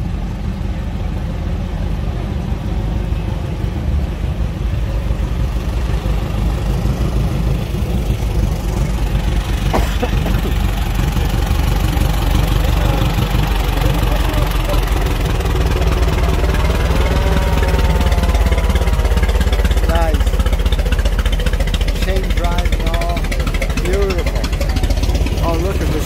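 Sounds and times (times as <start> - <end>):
vintage car engines rumbling: 0.0 - 26.0.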